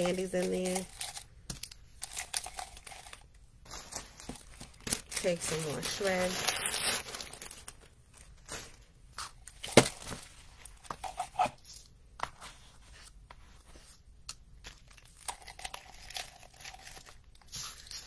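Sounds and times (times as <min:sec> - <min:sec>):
gift shred crinkling and rustling: 0:00.0 - 0:11.8, 0:14.6 - 0:18.0.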